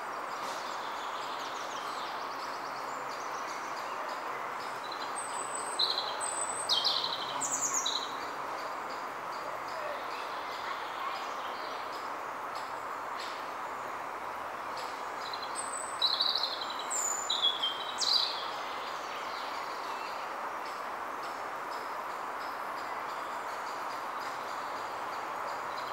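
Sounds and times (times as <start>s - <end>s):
steady background noise: 0.0s - 25.9s.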